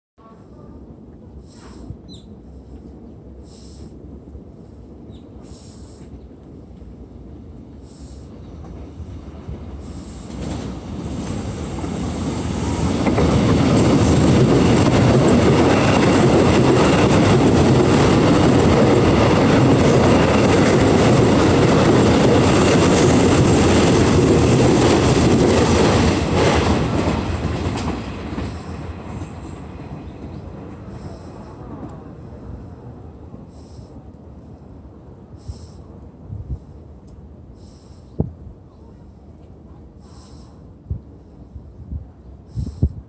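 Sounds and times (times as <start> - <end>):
electric train passing: 0.3 - 42.5.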